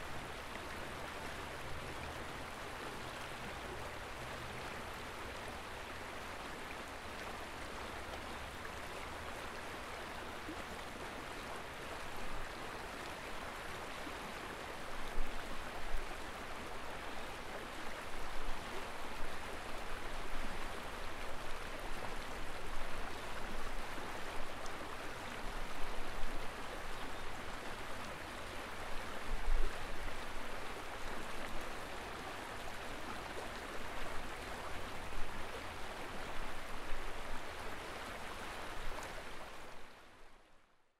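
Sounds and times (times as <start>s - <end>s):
flowing river water: 0.0s - 40.9s.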